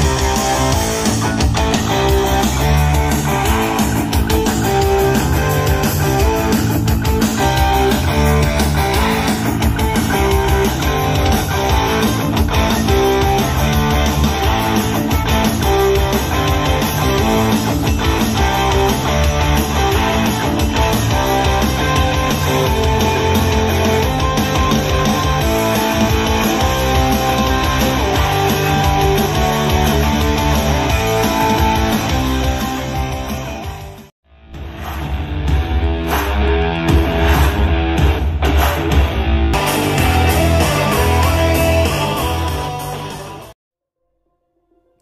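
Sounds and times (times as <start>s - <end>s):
guitar music with heavy bass: 0.0s - 43.6s.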